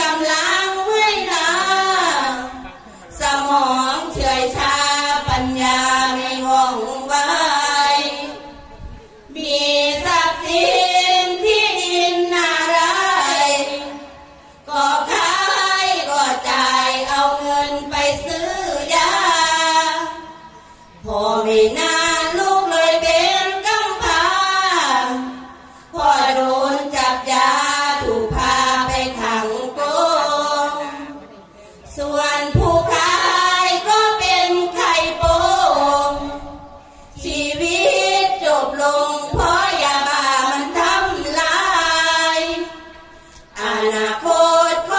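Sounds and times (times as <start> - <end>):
women chanting in unison: 0.0 - 8.6, 9.3 - 44.9.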